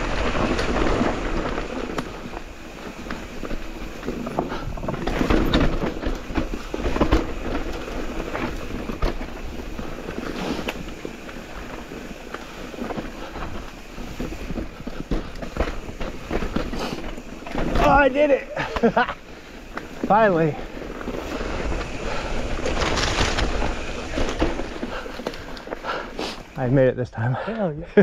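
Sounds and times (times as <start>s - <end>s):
bike tyre and frame clatter: 0.0s - 26.9s.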